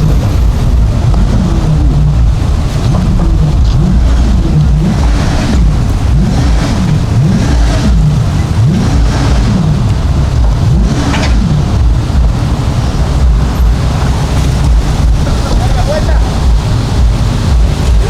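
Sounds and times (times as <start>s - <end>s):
engine revving: 0.0s - 18.0s
wind rumble on microphone: 0.0s - 18.0s.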